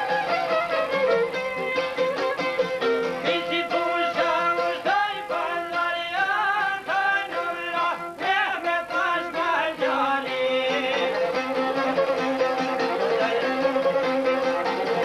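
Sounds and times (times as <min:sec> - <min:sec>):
wavering folk melody with vibrato: 0:00.0 - 0:15.0.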